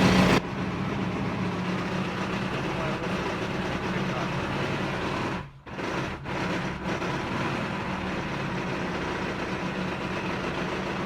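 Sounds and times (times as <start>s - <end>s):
car engine running with a knock: 0.0s - 11.0s.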